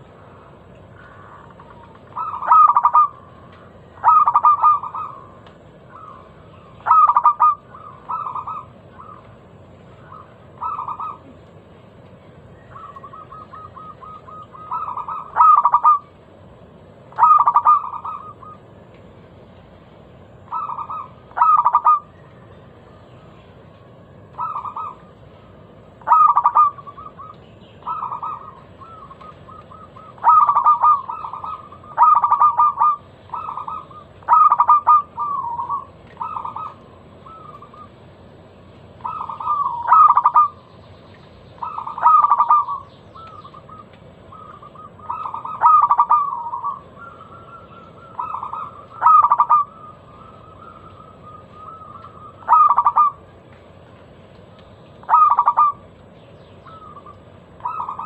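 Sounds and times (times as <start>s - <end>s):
dove cooing: 0.0s - 11.7s, 12.4s - 16.2s, 17.1s - 18.8s, 20.4s - 22.6s, 24.0s - 38.2s, 38.8s - 40.6s, 41.5s - 53.5s, 55.0s - 55.9s, 56.6s - 58.0s.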